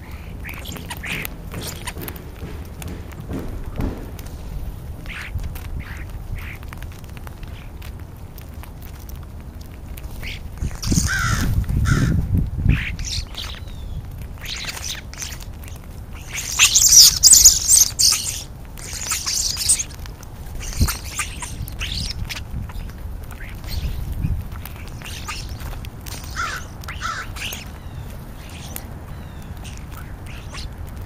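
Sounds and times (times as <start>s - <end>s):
starlings calling: 0.0s - 6.6s, 10.1s - 31.0s
crows calling: 0.0s - 6.7s, 10.1s - 31.0s.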